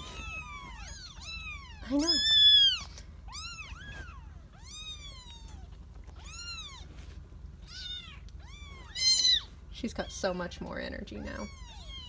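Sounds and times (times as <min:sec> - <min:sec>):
kittens mewing: 0:00.0 - 0:07.0, 0:07.6 - 0:09.6, 0:11.2 - 0:12.0.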